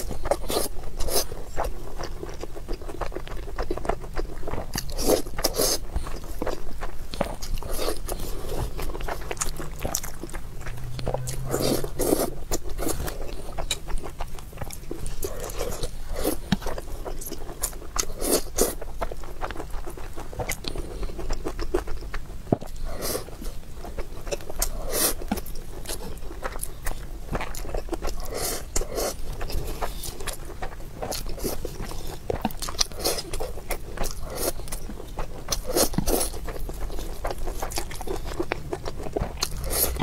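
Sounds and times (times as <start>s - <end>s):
chewing with wet mouth clicks: 0.0s - 40.0s.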